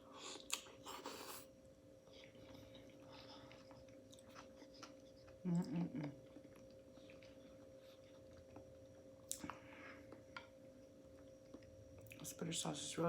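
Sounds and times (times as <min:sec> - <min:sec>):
faint chewing: 0:00.1 - 0:12.3.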